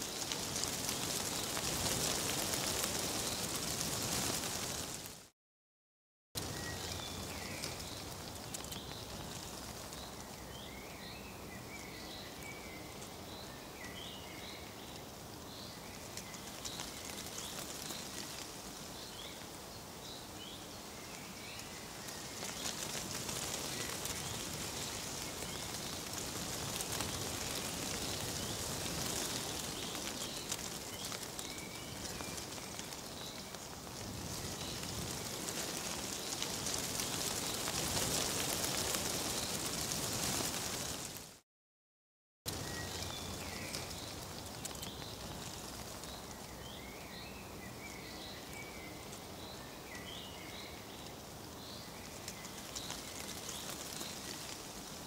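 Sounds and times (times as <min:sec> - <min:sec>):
dry leaves rustling in wind: 0:00.0 - 0:05.3, 0:06.4 - 0:41.4, 0:42.5 - 0:55.0
small birds chirping: 0:06.4 - 0:40.8, 0:42.5 - 0:55.0.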